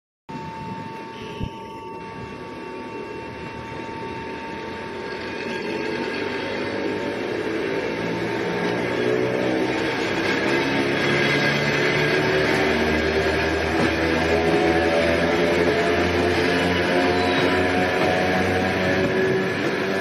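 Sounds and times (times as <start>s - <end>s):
electric locomotives running: 0.3s - 20.0s
low motor hum rising in pitch: 0.3s - 20.0s
steady high tone: 0.3s - 20.0s.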